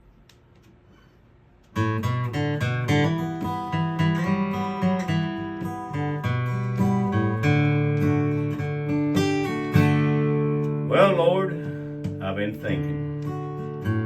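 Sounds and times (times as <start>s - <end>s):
acoustic guitar strumming chords: 1.7s - 14.0s.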